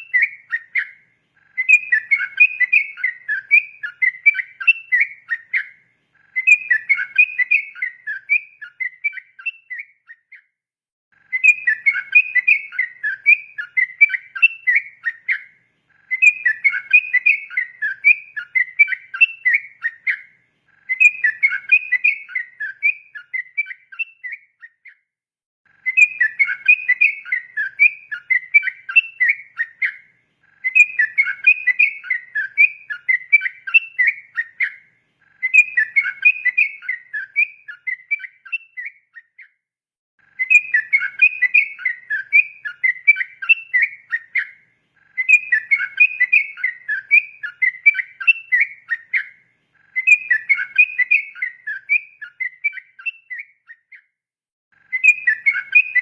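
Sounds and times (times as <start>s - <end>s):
bulbul singing whistled notes: 0.0s - 10.5s, 11.2s - 25.0s, 25.8s - 39.6s, 40.4s - 54.1s, 54.8s - 56.0s.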